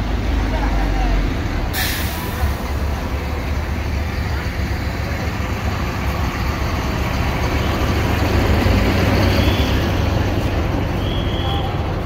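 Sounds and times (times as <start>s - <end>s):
low engine rumble: 0.0s - 12.0s
road traffic noise: 0.0s - 12.0s.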